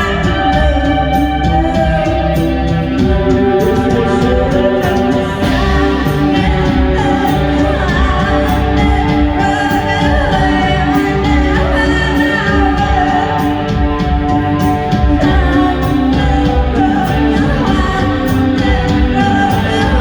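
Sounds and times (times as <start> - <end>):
heavy bass line: 0.0 - 20.0
live band playing: 0.0 - 20.0
person singing long notes: 0.0 - 20.0.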